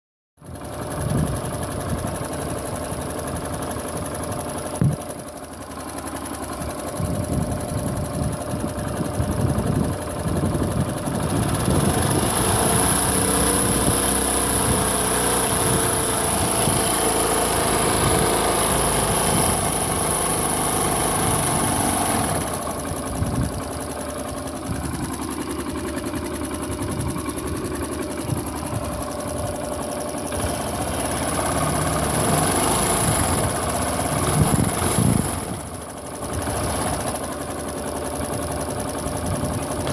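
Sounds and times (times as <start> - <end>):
small motorcycle engine idling: 0.4 - 39.9
sharp engine knock: 0.8 - 39.9.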